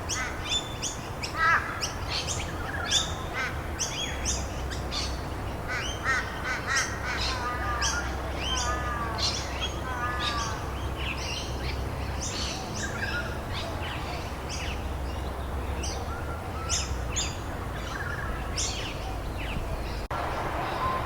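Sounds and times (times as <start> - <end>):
birds chirping: 0.0 - 21.0
low background noise: 0.0 - 21.0.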